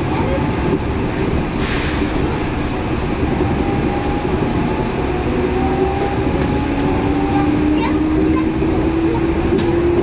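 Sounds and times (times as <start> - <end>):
train rumble with motor whine: 0.0 - 10.0.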